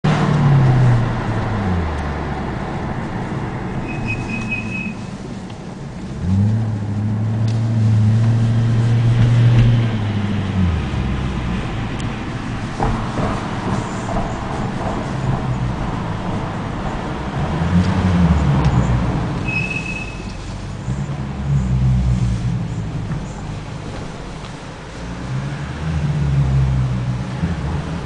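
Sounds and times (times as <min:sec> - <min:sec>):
brakes humming groan: 0:00.0 - 0:28.0
car road noise: 0:00.0 - 0:28.0.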